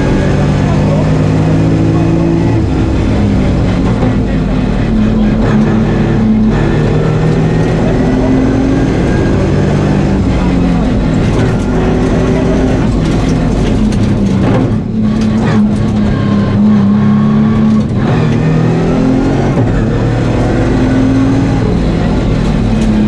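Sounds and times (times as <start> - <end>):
car engine running hard: 0.0 - 23.0.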